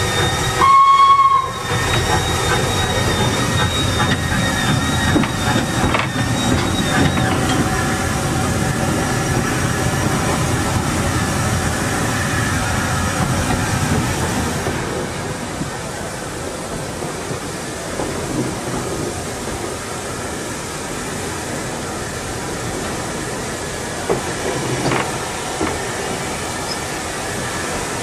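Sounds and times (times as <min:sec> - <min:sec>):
steam locomotive rumble and rattle: 0:00.0 - 0:28.0.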